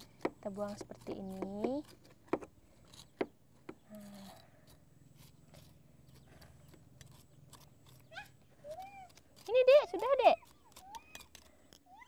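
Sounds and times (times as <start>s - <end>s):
knife scraping charred skin: 0.0s - 12.0s.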